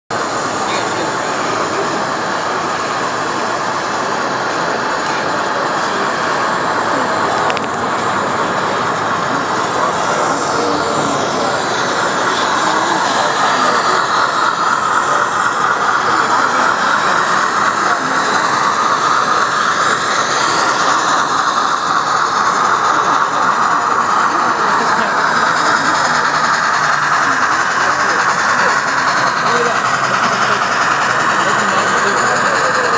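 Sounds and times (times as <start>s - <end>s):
busy hall crowd noise: 0.1s - 32.9s
model steam locomotive sounds: 0.1s - 32.9s.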